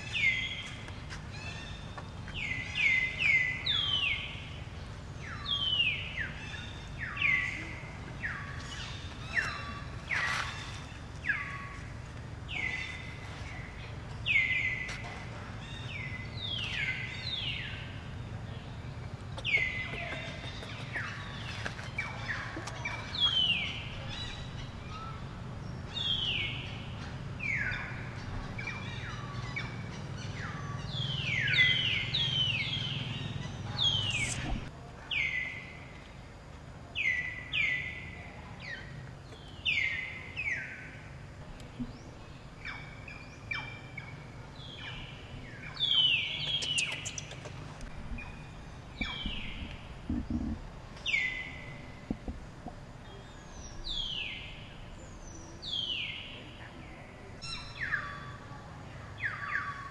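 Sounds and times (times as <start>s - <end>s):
low hum: 0.0s - 34.8s, 41.2s - 57.4s
birds calling: 0.0s - 36.1s, 37.0s - 59.9s.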